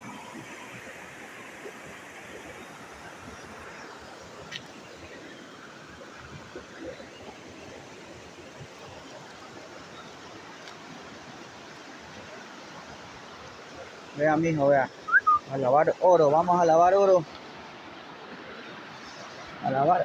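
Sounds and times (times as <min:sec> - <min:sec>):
stream water flowing: 0:00.0 - 0:20.0.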